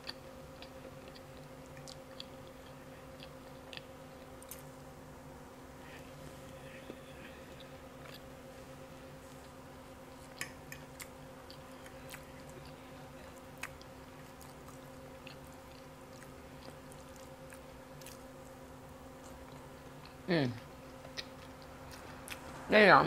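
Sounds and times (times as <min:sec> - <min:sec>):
person chewing: 0:00.0 - 0:04.7, 0:06.4 - 0:22.6
steady low hum: 0:00.0 - 0:23.0.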